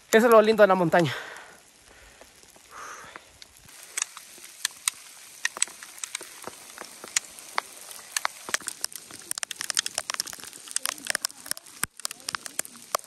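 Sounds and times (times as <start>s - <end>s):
faint hiss: 0.0s - 13.0s
hailstones ticking on ground: 0.0s - 13.0s.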